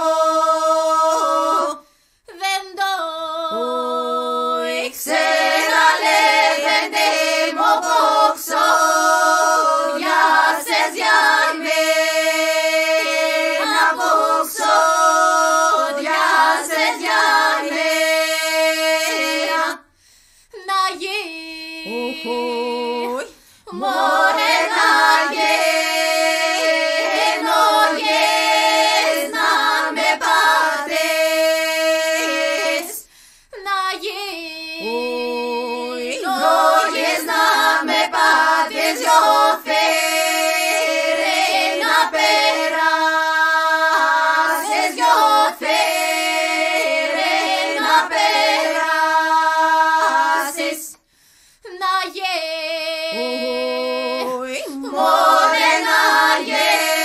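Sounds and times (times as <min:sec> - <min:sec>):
women's choir singing a cappella: 0:00.0 - 0:20.0, 0:20.6 - 0:51.1, 0:51.7 - 0:57.0.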